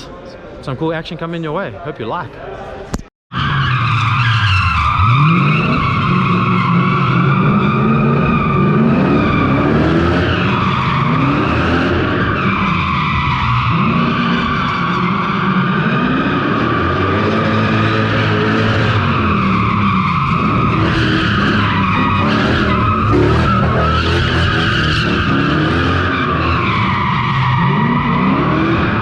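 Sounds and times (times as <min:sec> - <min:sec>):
car engine revving: 0:03.7 - 0:29.0.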